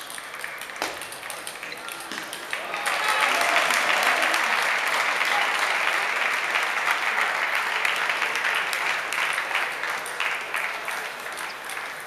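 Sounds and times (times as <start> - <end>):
spectators applauding: 0.0 - 12.0.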